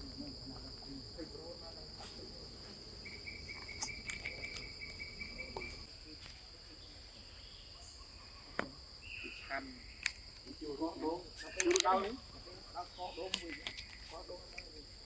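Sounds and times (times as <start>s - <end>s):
high-pitched insect drone: 0.0s - 15.0s
lower insect trill: 0.0s - 15.0s.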